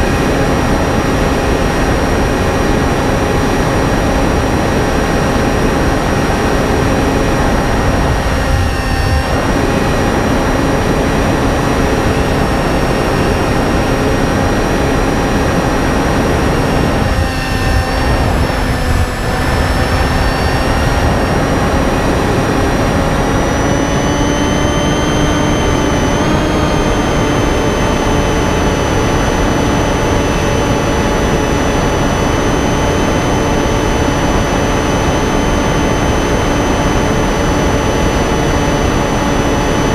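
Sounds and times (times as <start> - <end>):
model plane motor whining: 0.0 - 39.9
wind noise: 0.0 - 39.9.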